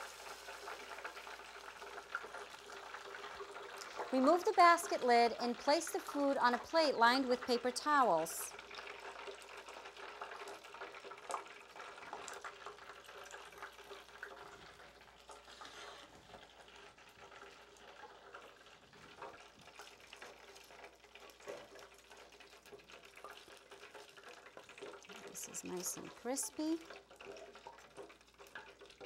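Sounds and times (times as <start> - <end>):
hot oil crackling and hissing: 0.0 - 29.0.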